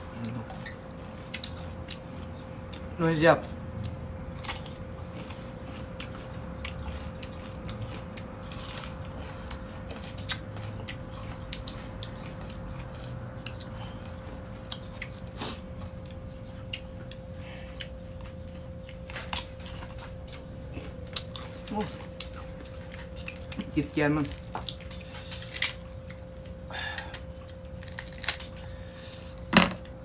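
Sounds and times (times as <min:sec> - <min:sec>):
crunchy chewing: 0:00.0 - 0:30.0
faint hum: 0:00.0 - 0:30.0.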